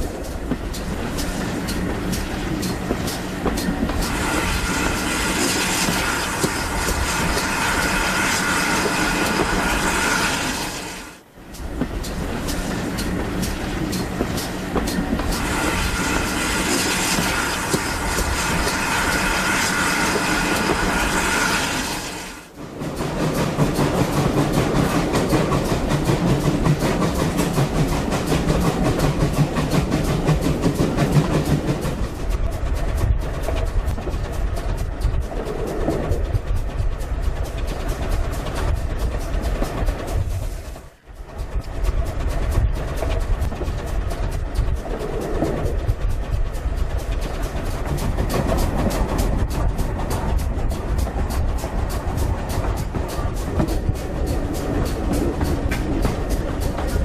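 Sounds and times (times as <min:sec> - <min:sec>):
train rushing noise: 0:00.0 - 0:57.0
train wheels clicking on rail joints: 0:00.0 - 0:57.0.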